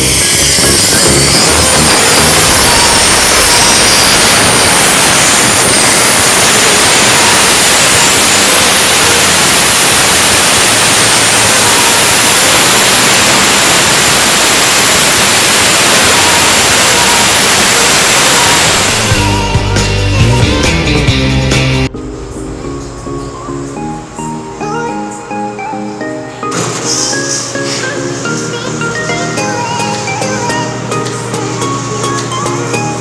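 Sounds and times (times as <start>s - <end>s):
air compressor whirring: 0.0s - 25.6s, 26.4s - 33.0s.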